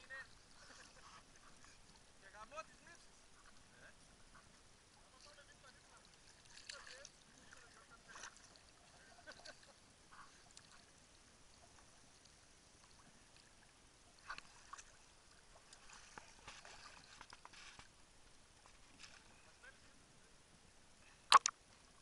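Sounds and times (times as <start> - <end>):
small waves lapping: 0.0 - 20.0.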